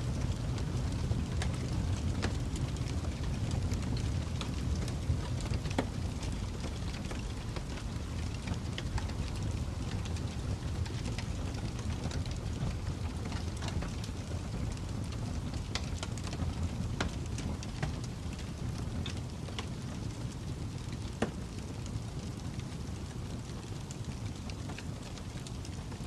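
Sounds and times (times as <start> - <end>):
fire crackling: 0.0 - 26.0.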